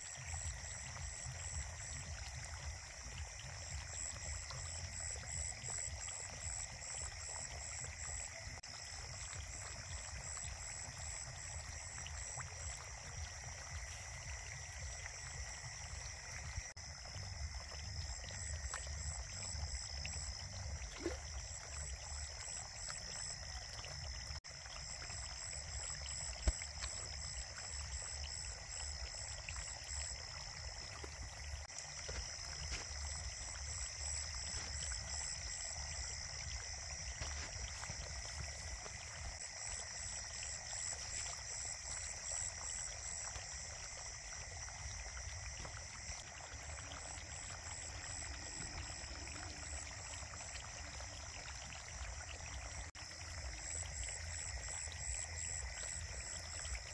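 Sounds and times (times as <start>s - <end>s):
night insects trilling: 0.0s - 56.9s.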